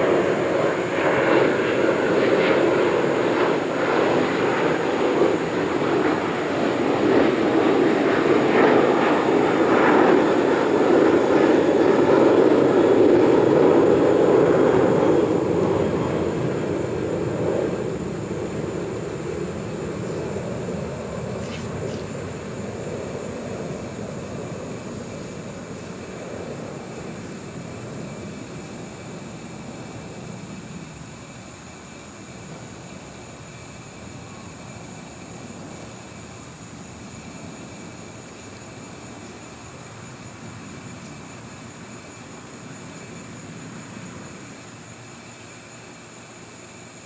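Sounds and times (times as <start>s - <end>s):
distant engine drone: 0.0s - 47.0s.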